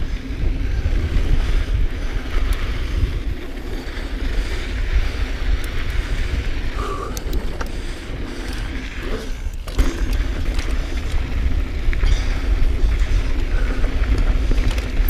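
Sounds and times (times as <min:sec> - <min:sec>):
tyres on dirt: 0:00.0 - 0:15.0
wind buffeting microphone: 0:00.0 - 0:15.0.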